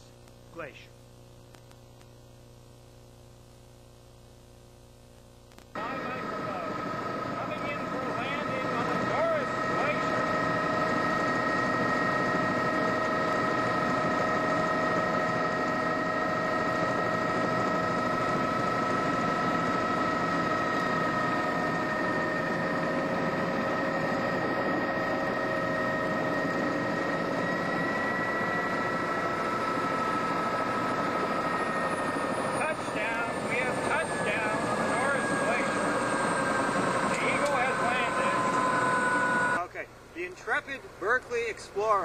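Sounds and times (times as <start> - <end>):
high whine: 0.0 - 41.5
helicopter rotor rush: 5.8 - 39.6.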